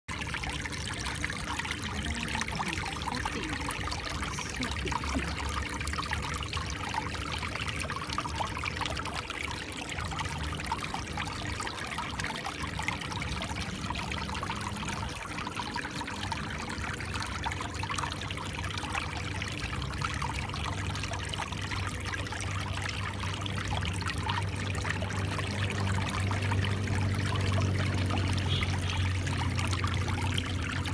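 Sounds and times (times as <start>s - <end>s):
water trickling in a stream: 0.1s - 30.9s.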